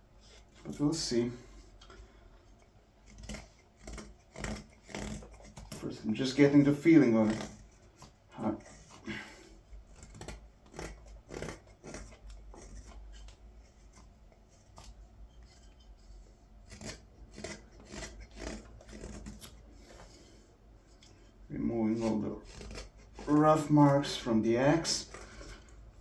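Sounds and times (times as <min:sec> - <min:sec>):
knife shaving green wood: 0:00.0 - 0:26.0.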